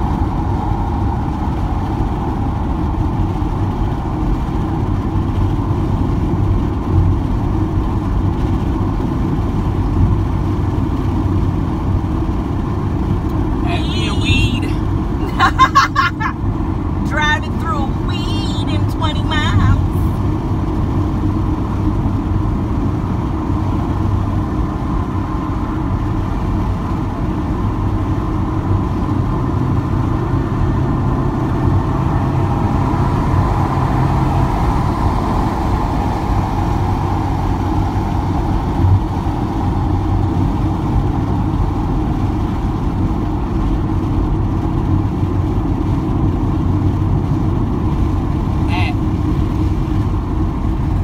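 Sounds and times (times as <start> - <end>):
car road noise rumble: 0.0 - 51.0.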